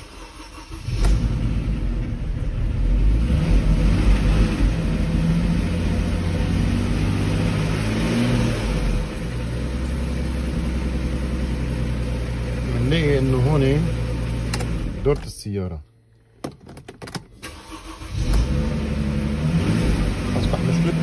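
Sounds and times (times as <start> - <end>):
car engine starting and revving: 0.0 - 15.2, 17.4 - 21.0.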